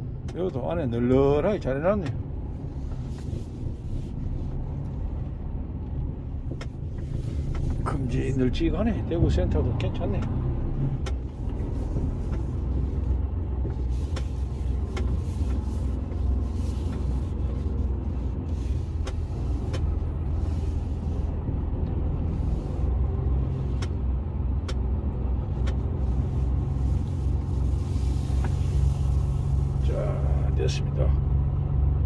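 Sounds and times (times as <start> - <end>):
diesel engine low rumble: 0.0 - 32.0.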